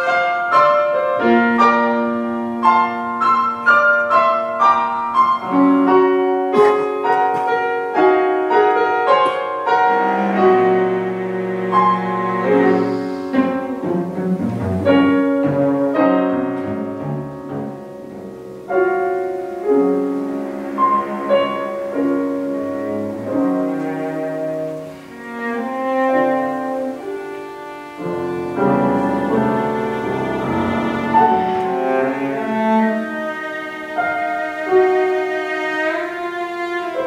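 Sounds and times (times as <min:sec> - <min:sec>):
cello long bowed notes: 0:00.0 - 0:37.0
piano chords: 0:00.0 - 0:37.0.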